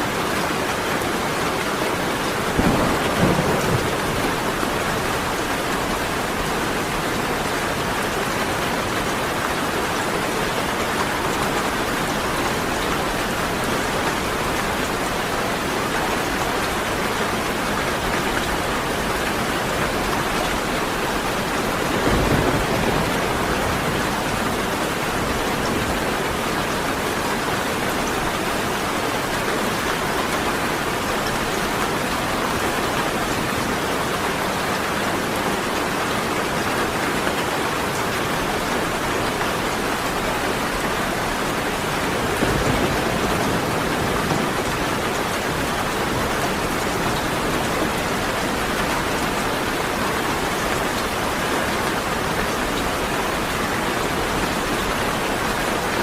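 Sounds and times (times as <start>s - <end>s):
steady rain hissing: 0.0s - 56.0s.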